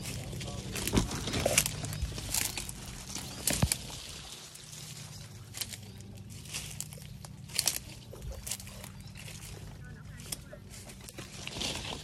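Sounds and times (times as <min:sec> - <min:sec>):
leaves and twigs rustling: 0:00.0 - 0:12.0
steady low hum: 0:00.0 - 0:12.0.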